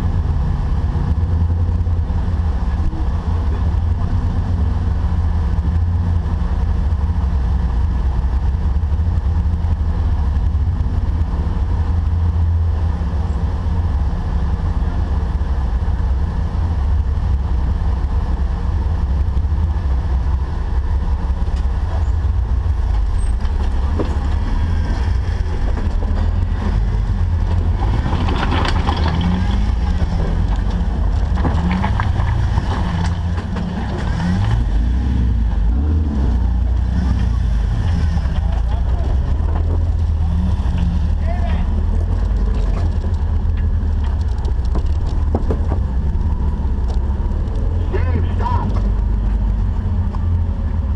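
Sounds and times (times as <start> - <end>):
car engine rumbling: 0.0 - 50.9.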